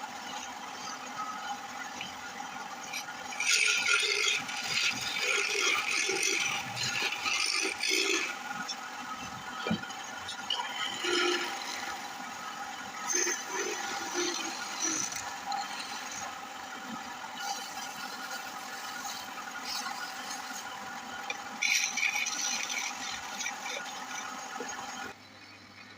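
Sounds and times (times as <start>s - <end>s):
tool cutting spinning wood: 0.0s - 25.9s
wood lathe motor whine: 0.0s - 25.9s.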